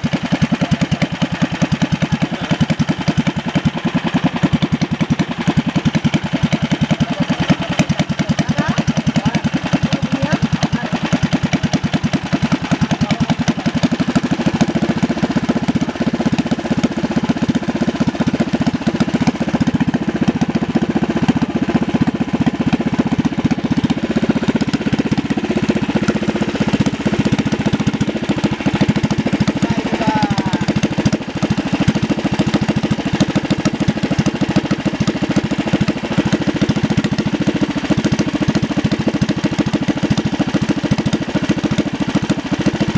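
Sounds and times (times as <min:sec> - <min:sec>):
small boat engine running: 0:00.0 - 0:42.9.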